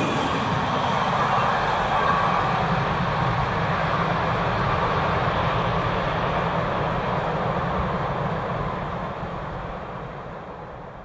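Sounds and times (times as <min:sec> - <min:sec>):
train wheels rumbling on rails: 0:00.0 - 0:10.4.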